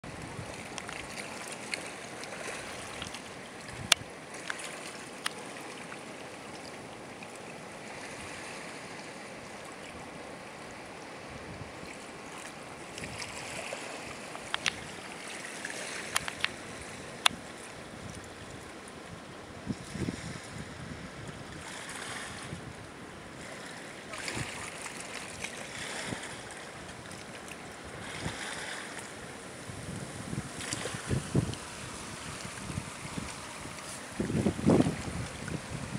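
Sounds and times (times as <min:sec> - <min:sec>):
water lapping at pebble shore: 0:00.1 - 0:10.2, 0:11.8 - 0:19.1, 0:23.4 - 0:35.9.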